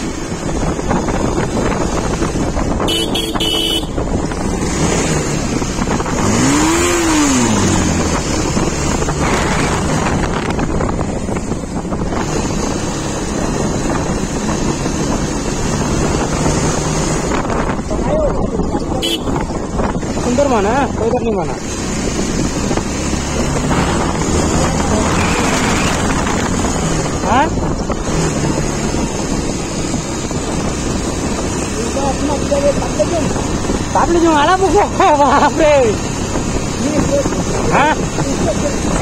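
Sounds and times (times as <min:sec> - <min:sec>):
motorcycle engine running: 0:00.0 - 0:39.0
wind on microphone: 0:00.0 - 0:39.0.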